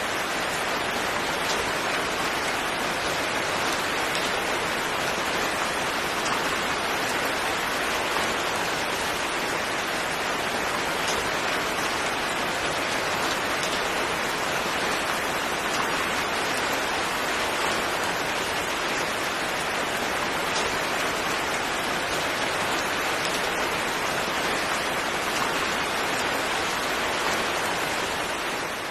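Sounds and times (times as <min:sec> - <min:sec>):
steady rain hiss: 0:00.0 - 0:28.9.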